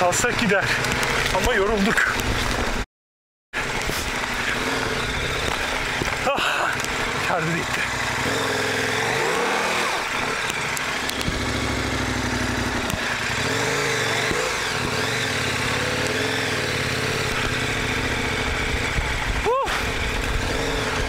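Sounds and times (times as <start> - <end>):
motorcycle engine revving: 0.0 - 2.8, 3.6 - 21.0.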